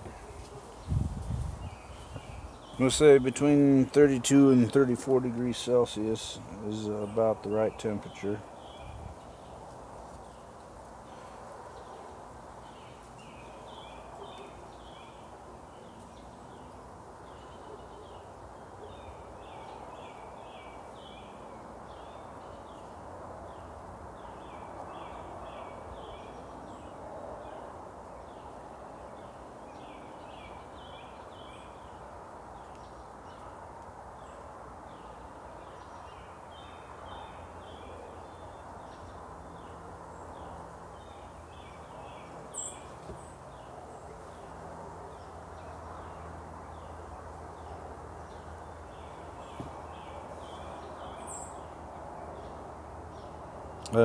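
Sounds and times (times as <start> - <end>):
steady low background noise: 0.0 - 54.0.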